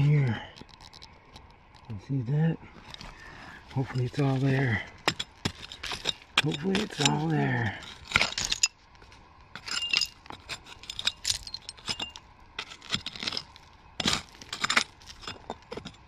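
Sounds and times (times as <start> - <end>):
hand pick chipping stony soil: 2.8 - 16.0.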